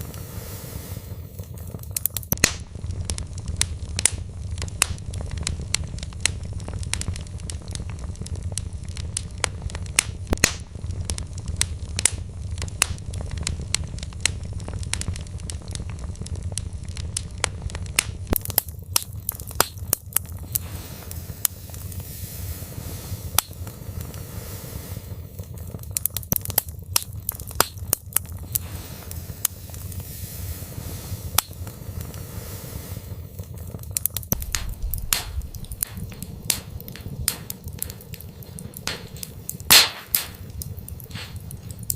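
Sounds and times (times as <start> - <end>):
logs crackling and popping: 0.0 - 41.9
low rumble of flames: 0.0 - 41.9.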